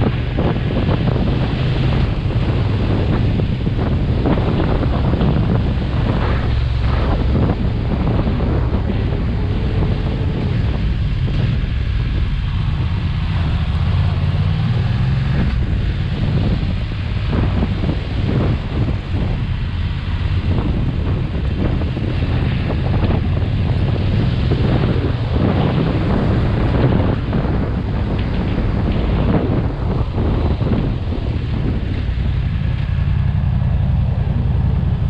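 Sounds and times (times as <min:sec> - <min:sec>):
motorcycle engine droning: 0:00.0 - 0:35.0
wind buffeting microphone: 0:00.0 - 0:35.0.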